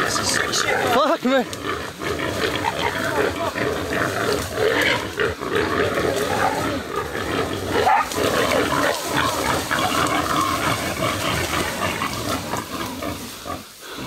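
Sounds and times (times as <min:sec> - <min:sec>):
wild boar squealing and grunting: 0:00.0 - 0:14.0.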